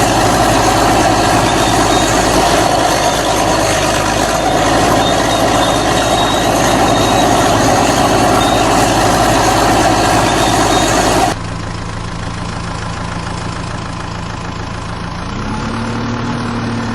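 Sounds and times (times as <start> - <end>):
quieter engine hum: 0.0 - 15.2
engine idling drone: 0.0 - 16.9.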